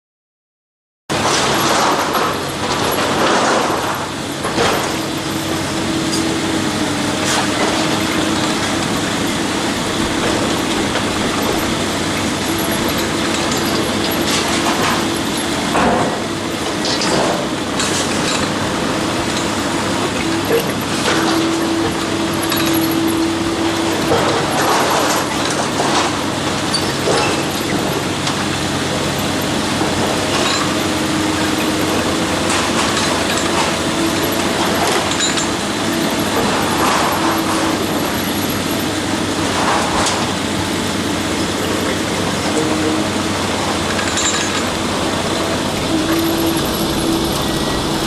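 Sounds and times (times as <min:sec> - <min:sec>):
diesel engine running: 0:01.1 - 0:48.0
hydraulic whine: 0:01.1 - 0:48.0.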